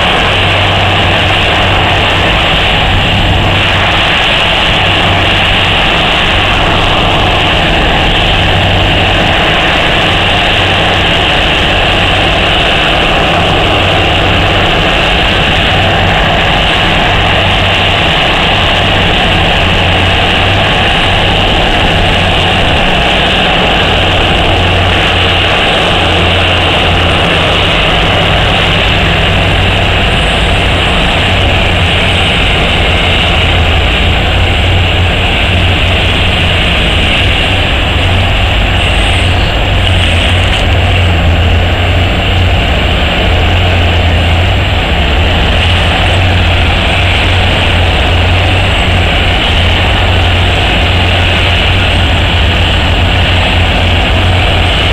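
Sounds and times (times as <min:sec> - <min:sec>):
diesel engines droning: 0:00.0 - 0:54.9.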